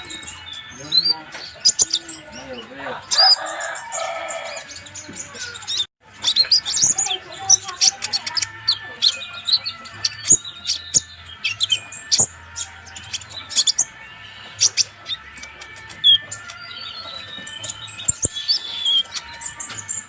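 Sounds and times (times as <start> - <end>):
bird singing high chips: 0.0 - 2.4, 3.1 - 20.0.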